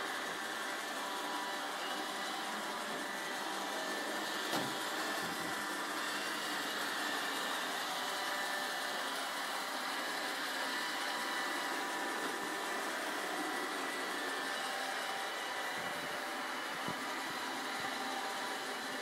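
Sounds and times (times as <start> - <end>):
robot vacuum running: 0.0 - 19.0.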